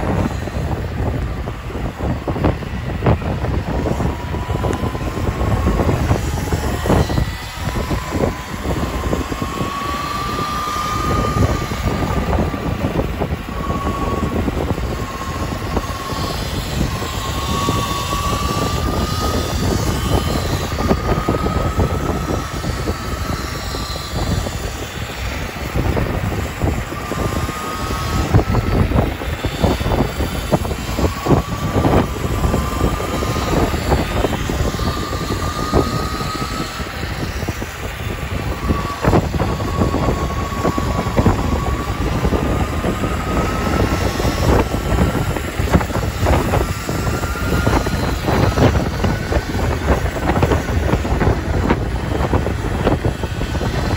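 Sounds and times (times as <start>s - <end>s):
electric motor whine: 0.0s - 53.9s
wind buffeting microphone: 0.0s - 53.9s.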